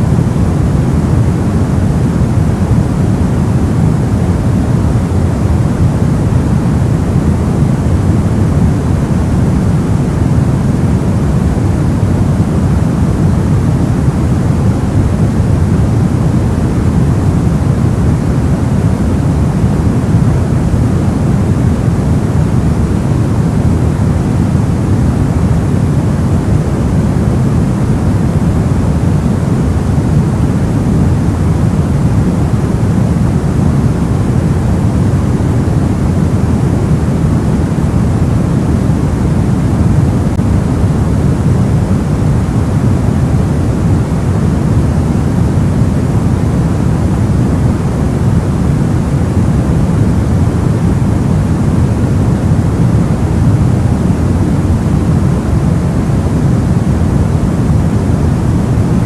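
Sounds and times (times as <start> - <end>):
low white noise hiss: 0.0 - 59.0.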